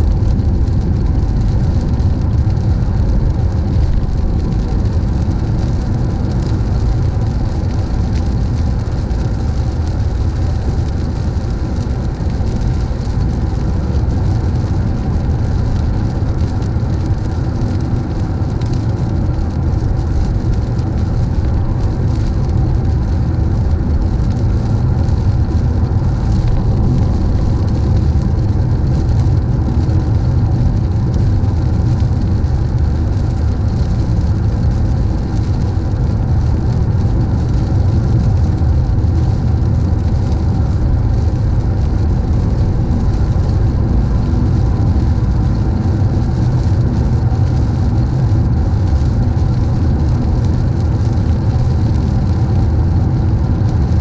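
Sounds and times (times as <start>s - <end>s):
tyres hissing on wet road: 0.0s - 53.9s
engine and tyre rumble: 0.0s - 54.0s.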